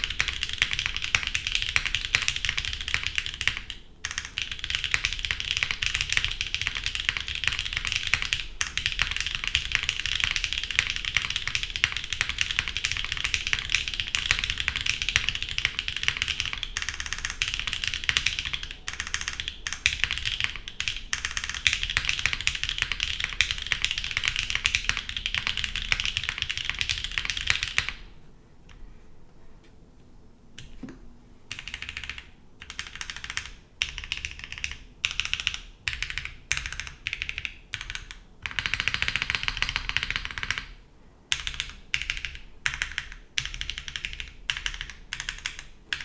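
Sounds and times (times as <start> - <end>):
fast typing on mechanical keyboard: 0.0 - 28.0, 31.5 - 46.0.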